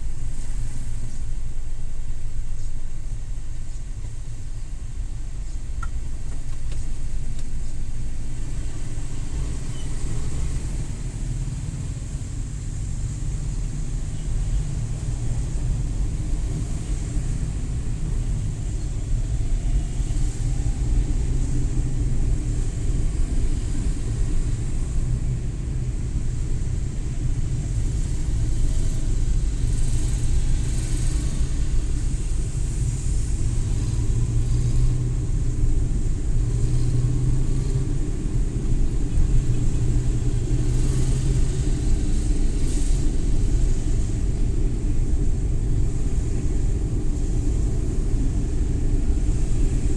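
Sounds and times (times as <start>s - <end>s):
road noise: 0.0s - 49.9s
van engine rumble: 0.0s - 49.9s.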